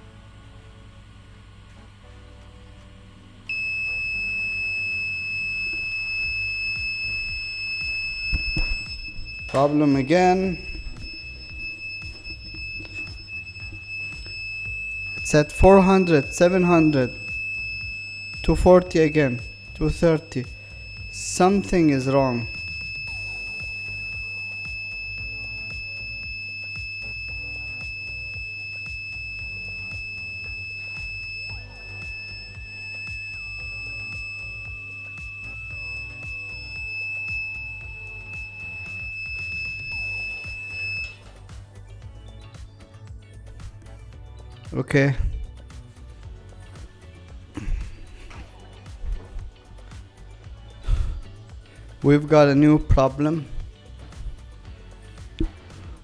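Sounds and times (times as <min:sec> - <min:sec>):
background music with steady beat: 0:00.0 - 0:56.0
printer buzzer high-pitched beep: 0:00.0 - 0:56.0.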